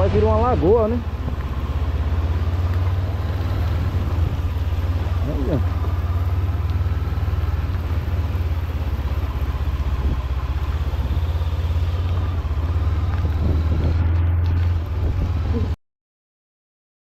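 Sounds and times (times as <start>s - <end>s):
motorcycle engine droning: 0.0s - 15.8s.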